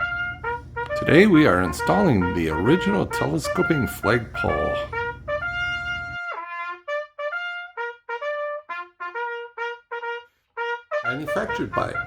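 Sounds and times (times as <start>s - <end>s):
solo trumpet melody: 0.0s - 12.0s.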